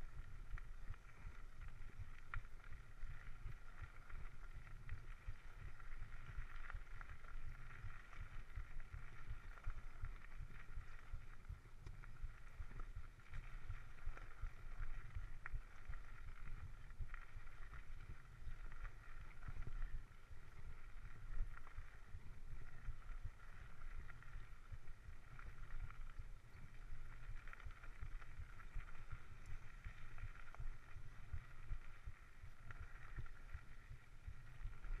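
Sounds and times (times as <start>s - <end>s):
bike rolling on dirt trail: 0.0s - 35.0s.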